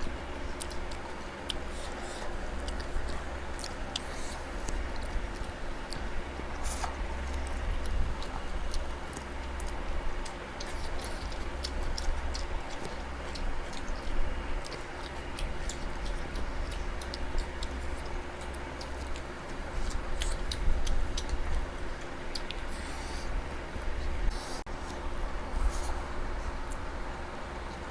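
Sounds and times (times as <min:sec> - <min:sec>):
chewing and mouth smacks: 0:00.0 - 0:27.9
steady low hum: 0:00.0 - 0:27.9.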